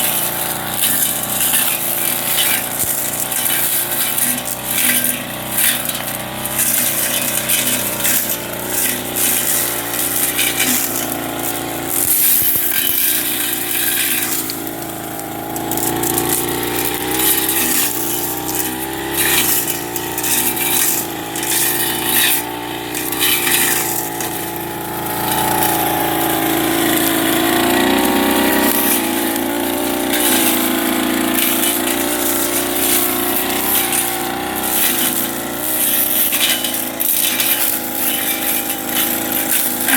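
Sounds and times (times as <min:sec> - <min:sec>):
blade clattering on vegetation: 0:00.0 - 0:39.9
brush cutter engine running: 0:00.0 - 0:39.9.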